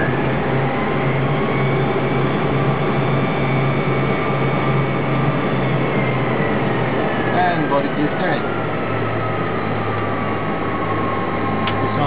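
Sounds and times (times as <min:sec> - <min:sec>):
aircraft engine noise in cockpit: 0:00.0 - 0:12.0
constant low hum: 0:00.0 - 0:12.0.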